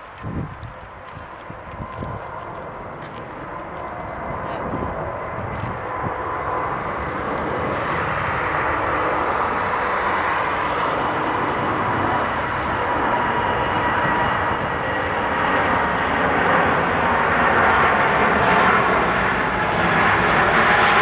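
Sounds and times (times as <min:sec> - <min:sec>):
jet engines roaring at takeoff: 0:00.0 - 0:21.0.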